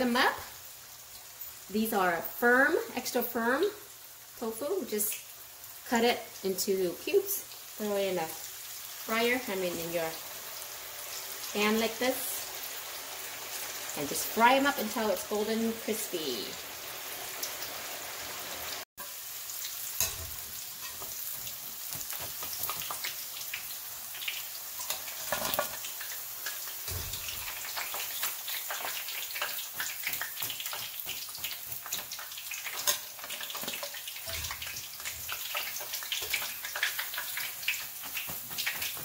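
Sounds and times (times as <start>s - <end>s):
tofu deep-frying in hot oil: 0.0s - 39.0s.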